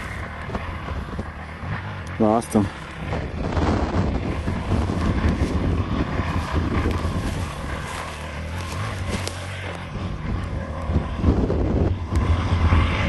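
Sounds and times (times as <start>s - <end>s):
dirt bike engine running: 0.0s - 13.0s
wind noise on microphone: 0.0s - 13.0s.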